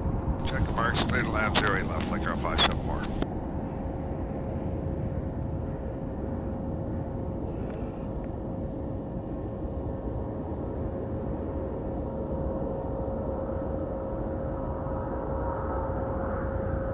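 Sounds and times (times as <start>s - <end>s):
faint steady hum: 0.0s - 16.9s
jet engines low rumble: 0.0s - 16.9s.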